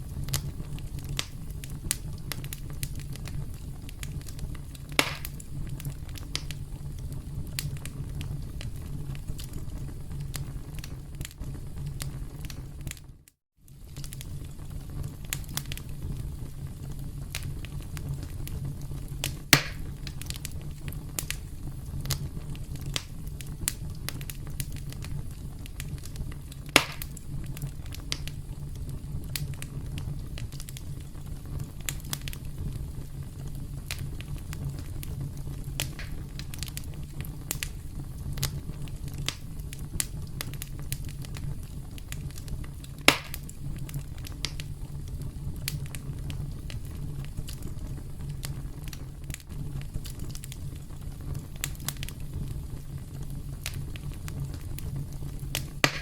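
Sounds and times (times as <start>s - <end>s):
campfire crackling: 0.0s - 56.0s
loud fire pops: 0.0s - 56.0s.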